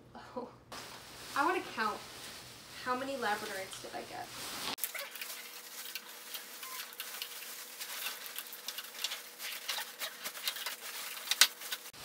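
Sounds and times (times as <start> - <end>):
plastic packaging crinkling: 0.8 - 12.0.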